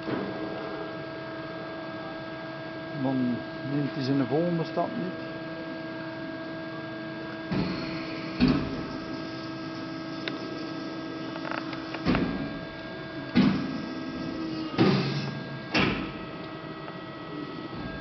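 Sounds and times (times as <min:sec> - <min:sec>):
hydraulic pump humming: 0:02.9 - 0:18.0.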